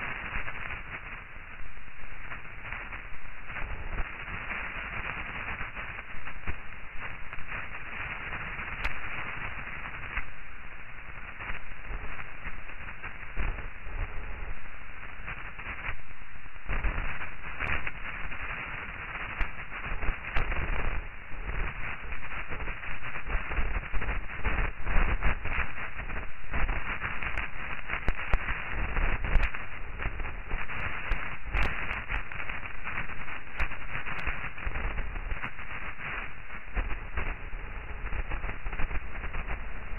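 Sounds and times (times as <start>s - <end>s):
crackling static hiss: 0.0s - 39.9s.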